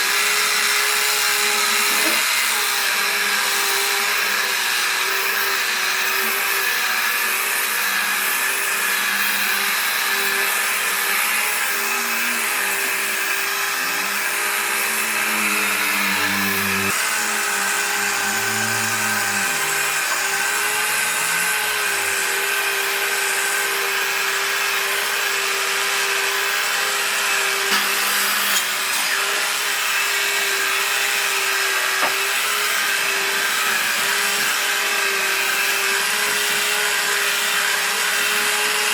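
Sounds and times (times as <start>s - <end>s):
electric power tool on wood: 0.0s - 38.9s.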